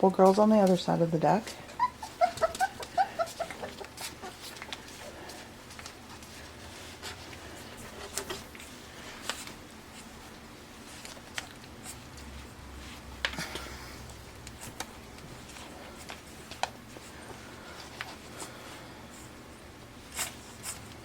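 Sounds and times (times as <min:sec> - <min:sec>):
puppies clicking and scuffing: 0:00.0 - 0:21.0.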